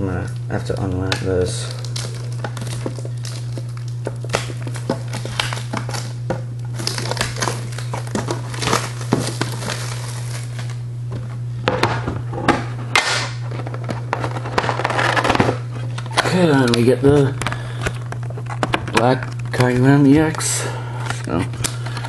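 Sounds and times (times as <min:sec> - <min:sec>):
plastic shrink-wrap crinkling: 0:00.2 - 0:10.9, 0:13.0 - 0:22.0.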